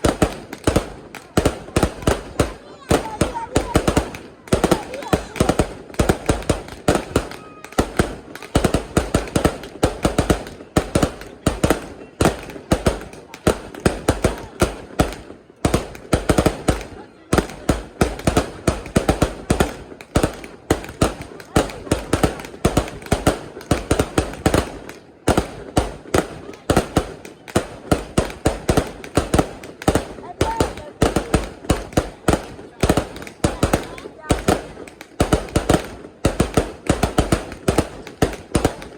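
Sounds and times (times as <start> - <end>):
fireworks banging: 0.0 - 38.9.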